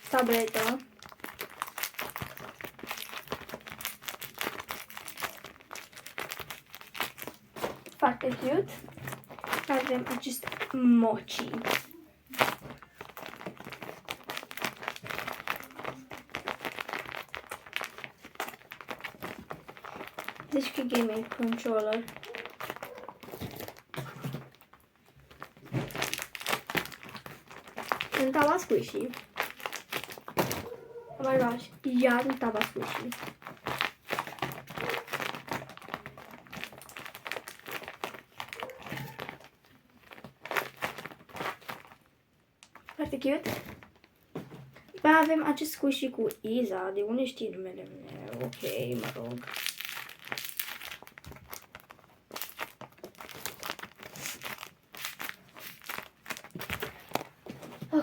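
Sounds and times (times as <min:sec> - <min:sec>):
crinkly packaging rustling: 0:00.0 - 0:58.0.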